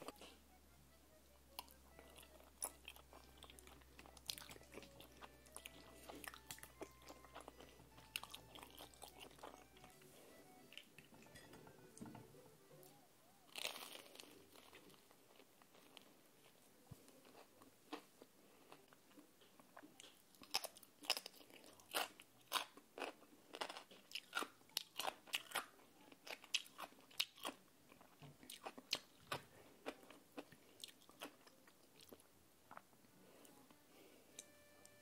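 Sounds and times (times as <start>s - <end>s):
crunching and chewing crisp food: 0.0s - 0.6s, 1.4s - 35.0s.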